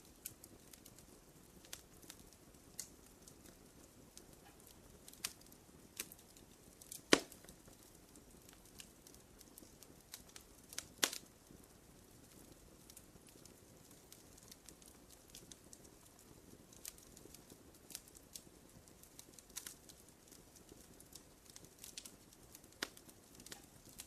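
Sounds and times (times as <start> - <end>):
faint low hiss: 0.0 - 24.0
wood fire snapping: 0.0 - 24.0.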